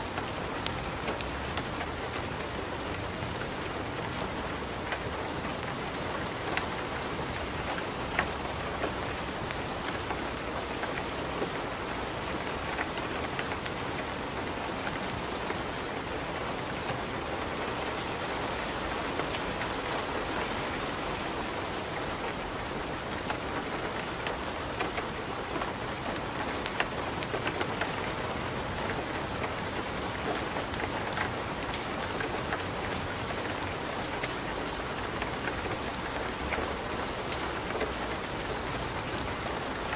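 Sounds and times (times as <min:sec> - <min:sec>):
wood fire crackling: 0:00.0 - 0:21.0, 0:21.8 - 0:39.9.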